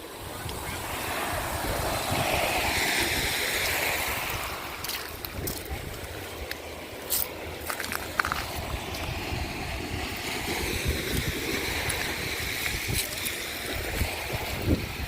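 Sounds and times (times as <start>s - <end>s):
wind rumble on microphone: 0.0s - 6.6s, 7.6s - 15.0s
surf washing on shell beach: 0.0s - 15.0s.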